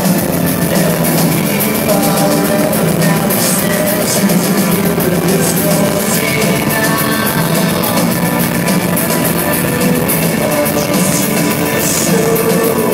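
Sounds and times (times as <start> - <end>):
live rock band playing: 0.0 - 12.9.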